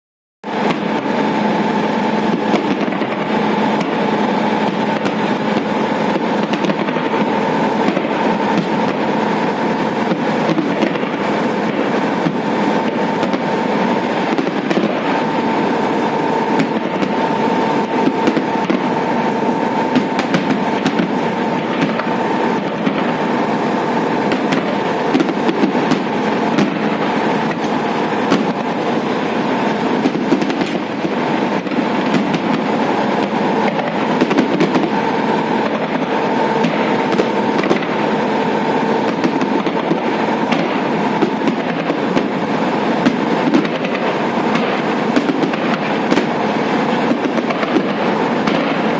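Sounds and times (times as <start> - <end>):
fireworks crackling and banging: 0.5 - 48.9.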